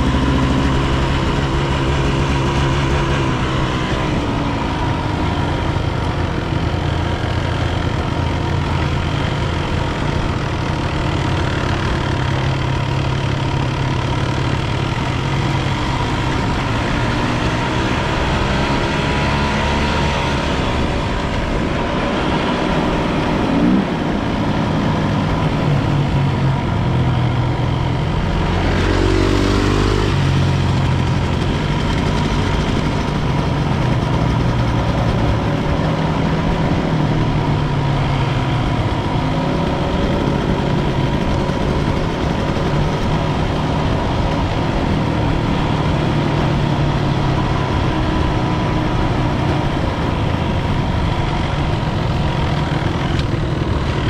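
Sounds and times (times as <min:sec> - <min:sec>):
dirt bike engine revving: 0:00.0 - 0:26.7, 0:27.3 - 0:54.0.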